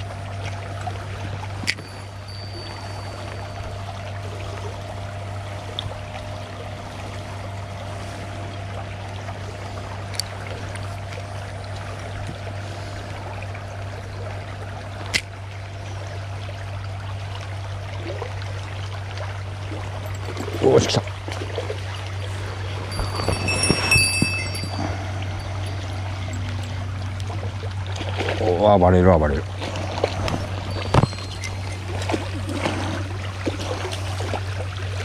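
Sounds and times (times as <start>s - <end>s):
river water rushing: 0.0s - 28.8s, 29.4s - 35.0s.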